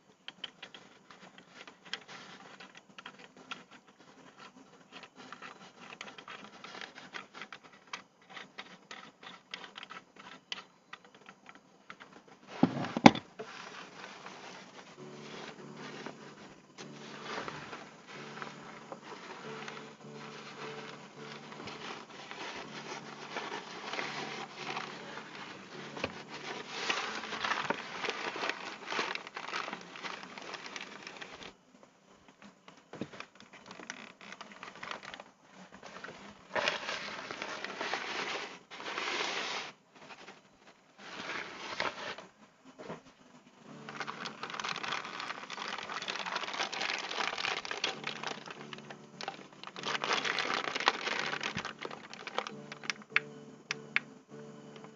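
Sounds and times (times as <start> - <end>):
plastic packaging crinkling: 0.0 - 31.6, 33.0 - 40.4, 43.7 - 54.0.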